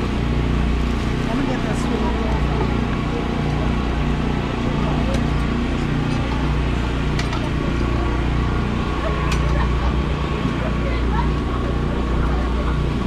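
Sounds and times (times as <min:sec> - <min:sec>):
steady low rumble: 0:00.0 - 0:13.0
indistinct voices: 0:01.0 - 0:13.0.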